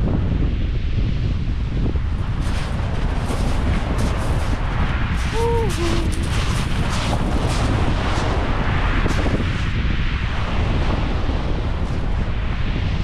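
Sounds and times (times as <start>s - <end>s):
wind buffeting microphone: 0.0s - 13.0s
surf washing on beach: 2.0s - 13.0s.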